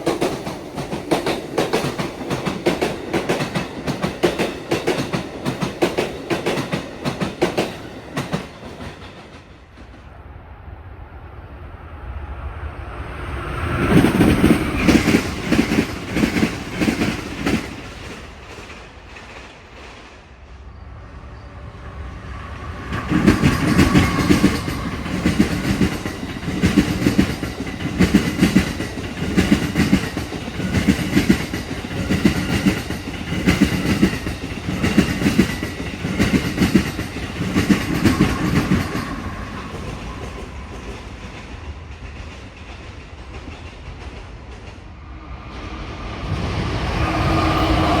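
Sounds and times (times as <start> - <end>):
train wheels clacking over rails: 0.0 - 10.0, 13.8 - 20.3, 22.6 - 44.9.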